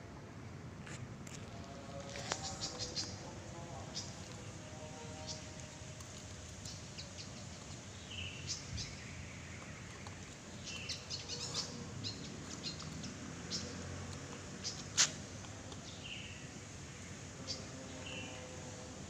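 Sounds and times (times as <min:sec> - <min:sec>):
low outdoor background noise: 0:00.0 - 0:19.0
small birds chirping: 0:01.8 - 0:18.6.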